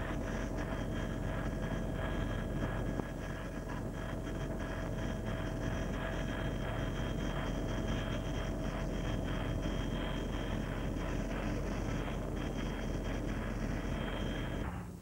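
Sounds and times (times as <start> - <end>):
helicopter engine and rotors drone: 0.0 - 14.7.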